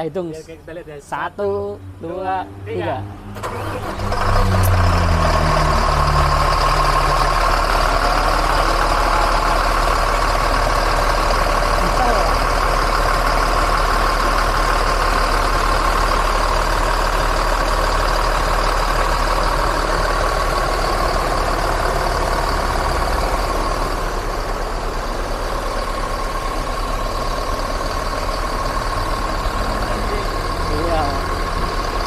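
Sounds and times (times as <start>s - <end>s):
diesel bus engine idling: 0.0s - 32.0s.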